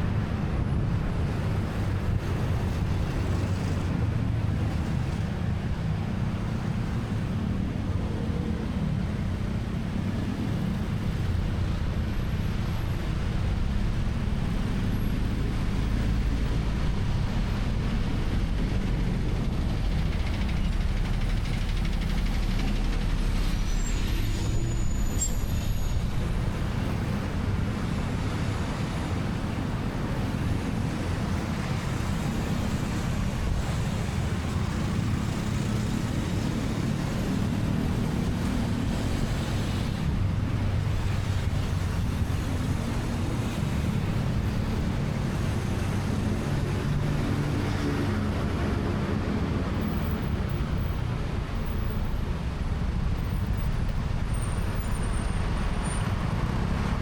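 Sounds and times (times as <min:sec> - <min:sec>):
road and traffic noise: 0:00.0 - 0:57.0.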